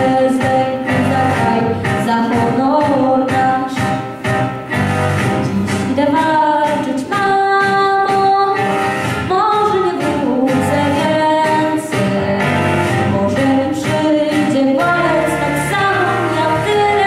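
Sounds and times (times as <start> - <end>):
girl singing into microphone: 0.0 - 4.2, 5.3 - 17.0.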